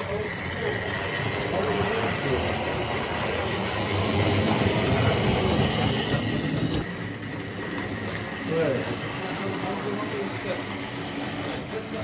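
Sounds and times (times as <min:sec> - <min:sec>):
model train motor whirring: 0:00.0 - 0:12.0
model train wheels on rails: 0:00.0 - 0:12.0.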